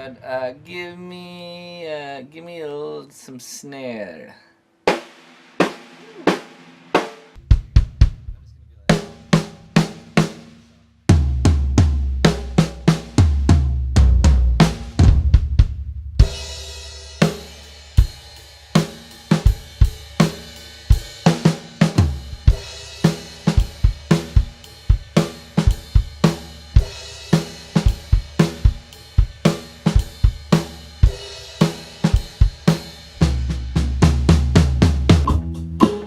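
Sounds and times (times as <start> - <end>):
drum kit playing: 4.9 - 36.0.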